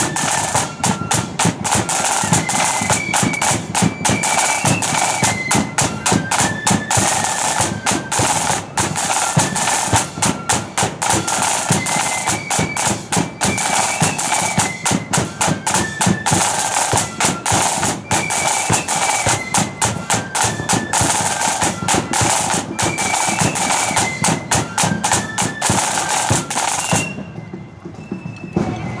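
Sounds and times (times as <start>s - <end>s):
flutes playing melody: 0.0s - 29.0s
side drum strokes and rolls: 0.0s - 29.0s.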